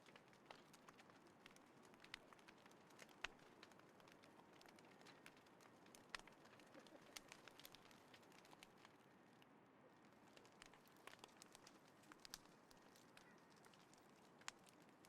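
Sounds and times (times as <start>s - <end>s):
wood fire crackling and popping: 0.0s - 9.2s, 10.0s - 15.0s.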